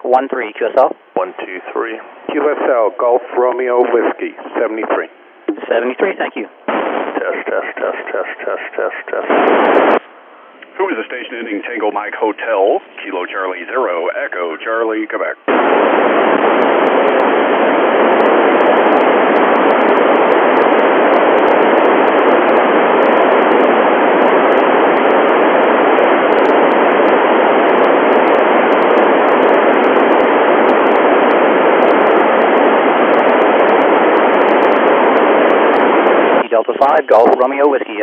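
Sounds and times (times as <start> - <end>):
radio receiver static hiss: 0.0 - 38.0.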